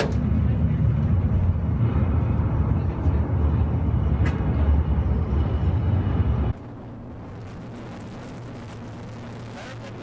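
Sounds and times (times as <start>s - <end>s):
loud low rumble: 0.0s - 10.0s.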